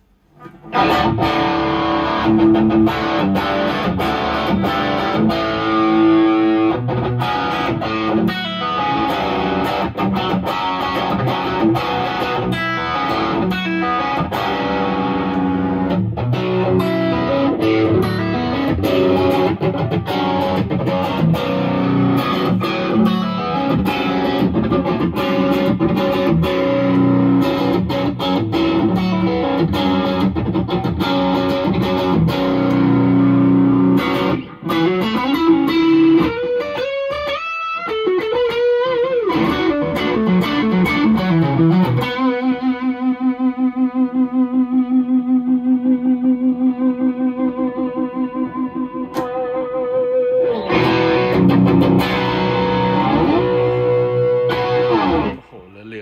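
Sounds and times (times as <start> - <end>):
overdriven electric guitar: 0.0 - 55.7.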